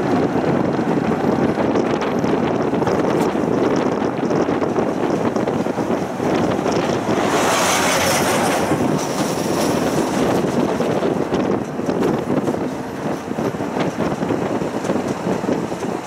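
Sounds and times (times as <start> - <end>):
passing tram hissing rush: 0.0 - 16.0
tram rolling rumble: 0.0 - 16.0.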